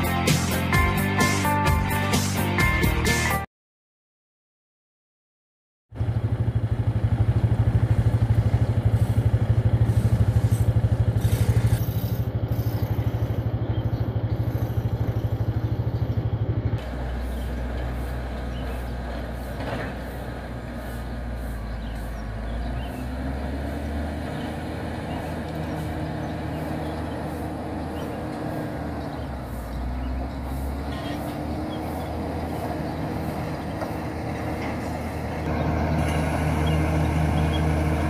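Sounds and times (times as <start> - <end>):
engine running with fast pulse: 5.9 - 38.0
low steady engine hum: 6.0 - 38.0.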